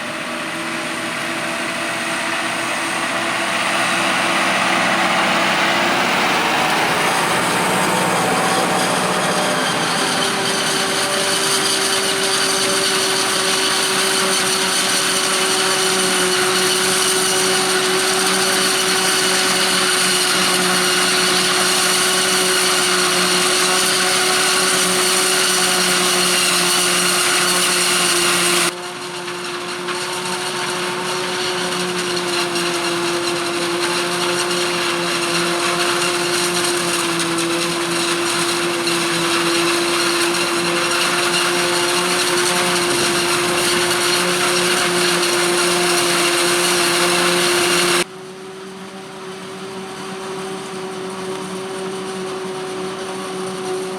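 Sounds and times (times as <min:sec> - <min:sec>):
harvester high-pitched whine: 0:00.0 - 0:48.1
harvester engine: 0:00.0 - 0:53.9.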